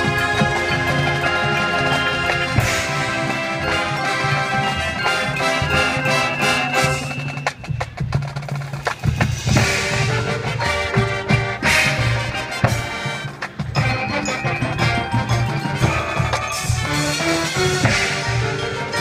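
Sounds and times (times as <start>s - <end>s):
marching band playing: 0.0s - 19.0s
sharp percussion strikes: 0.0s - 19.0s.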